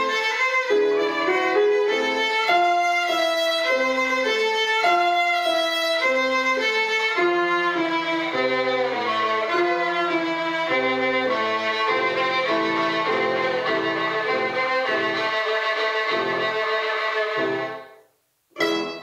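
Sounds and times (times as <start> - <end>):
bowed violin melody: 0.0 - 18.0, 18.6 - 19.0
grand piano: 0.0 - 18.0.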